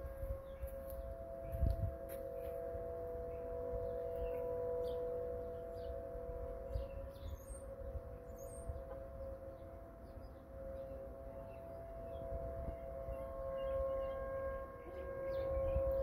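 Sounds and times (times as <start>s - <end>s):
warning sirens wailing: 0.0s - 16.0s.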